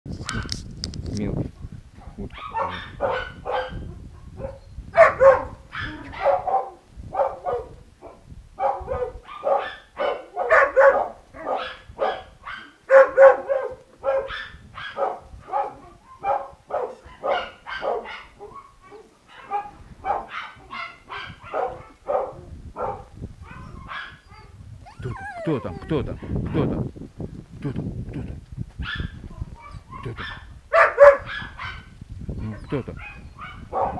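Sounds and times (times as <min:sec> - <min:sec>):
young dogs barking: 0:02.0 - 0:26.7, 0:28.8 - 0:33.9.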